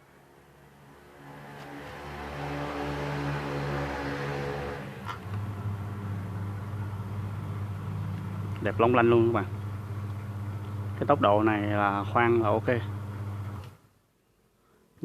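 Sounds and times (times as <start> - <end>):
electric motor humming: 1.1 - 13.8.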